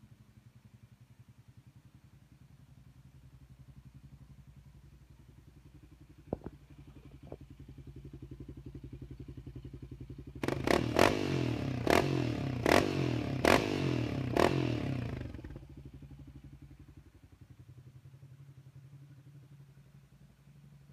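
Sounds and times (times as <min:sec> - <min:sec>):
atv engine idling and revving: 0:00.0 - 0:20.9.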